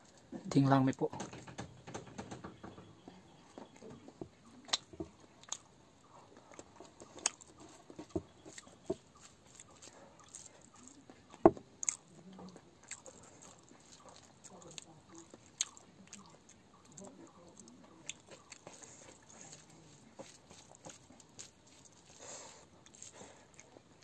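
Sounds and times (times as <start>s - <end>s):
chewing and lip smacks: 3.6s - 24.0s.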